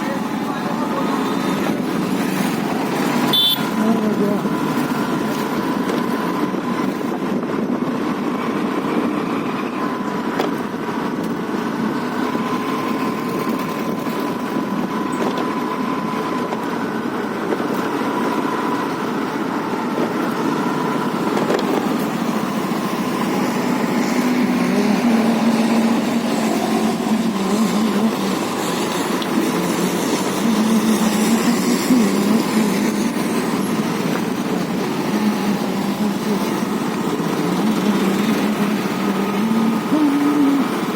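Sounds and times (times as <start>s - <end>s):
motorcycle engine riding: 0.0s - 40.9s
surrounding traffic: 0.0s - 40.9s.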